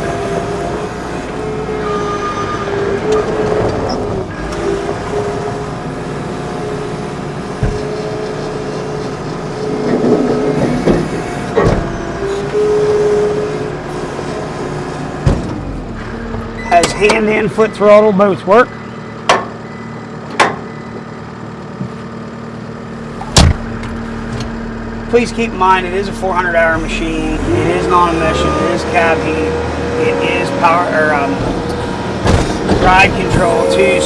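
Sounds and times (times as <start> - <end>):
hydraulic whine: 0.0 - 21.9, 22.6 - 34.0
diesel engine running: 0.0 - 34.0.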